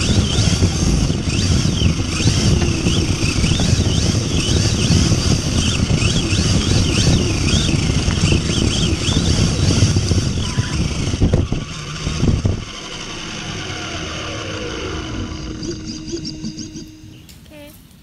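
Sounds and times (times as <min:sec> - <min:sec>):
rc car drivetrain whine: 0:00.0 - 0:17.4.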